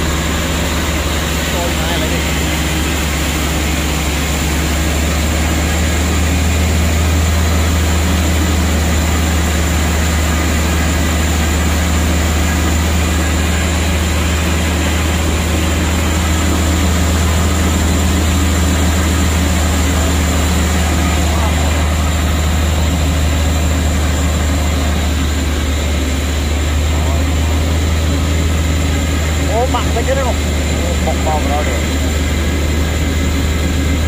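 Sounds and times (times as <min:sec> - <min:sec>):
truck engine droning: 0:00.0 - 0:34.0.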